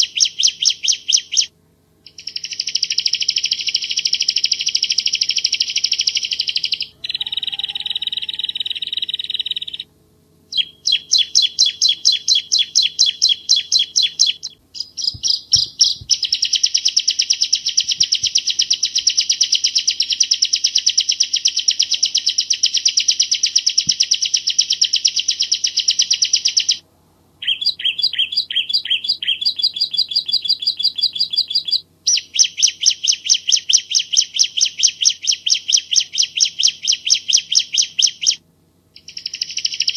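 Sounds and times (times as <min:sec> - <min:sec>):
bird singing rapid high chirps: 0:00.0 - 0:09.9, 0:10.5 - 0:26.8, 0:27.4 - 0:38.4, 0:39.0 - 0:39.9.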